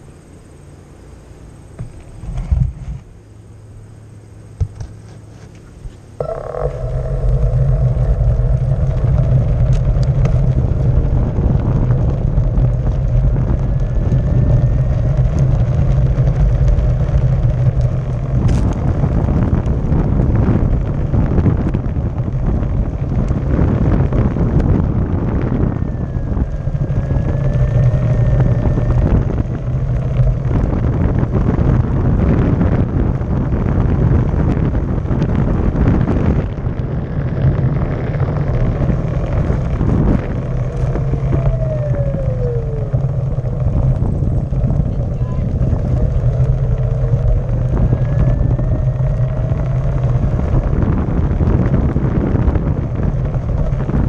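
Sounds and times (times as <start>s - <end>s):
steady electric whine: 0.0s - 54.0s
wind on microphone: 1.4s - 54.0s
board rolling over brick pavers: 3.9s - 54.0s.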